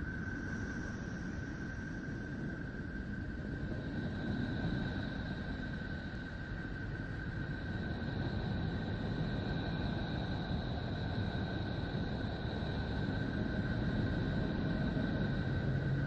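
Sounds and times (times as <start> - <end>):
faint high whistling tones: 0.0 - 16.0.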